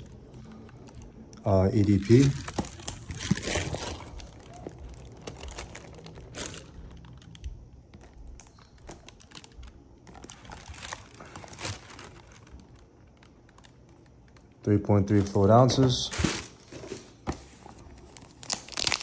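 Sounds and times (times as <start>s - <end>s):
soft cellophane rustle: 0.0s - 19.0s.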